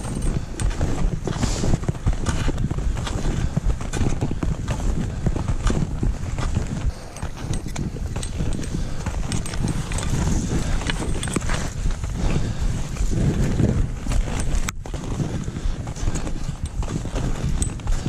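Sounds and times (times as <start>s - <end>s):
skis and poles clattering: 0.0s - 18.0s
skis scraping over snow: 0.4s - 18.0s.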